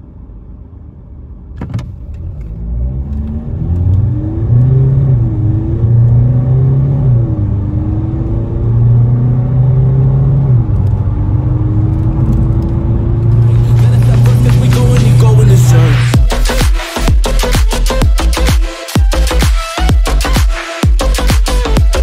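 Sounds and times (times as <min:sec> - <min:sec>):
diesel car engine accelerating: 0:00.0 - 0:20.4.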